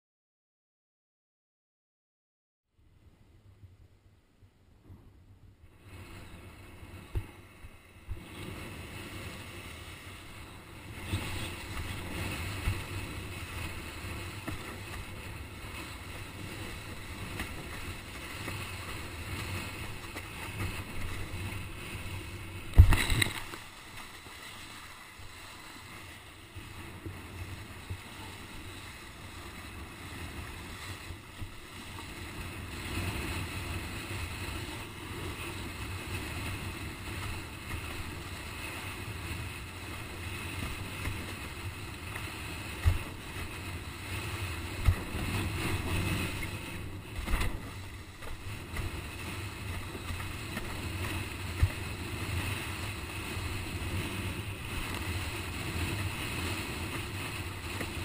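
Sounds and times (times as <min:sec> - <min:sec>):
wind buffeting microphone: 0:04.8 - 0:25.6, 0:26.3 - 0:58.0
water rushing past board: 0:05.8 - 0:58.0.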